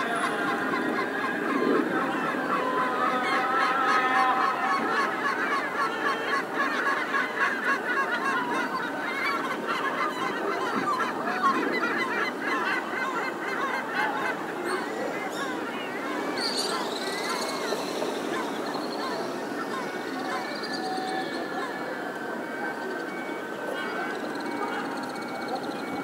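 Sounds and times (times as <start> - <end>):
many birds calling: 0.0 - 26.0.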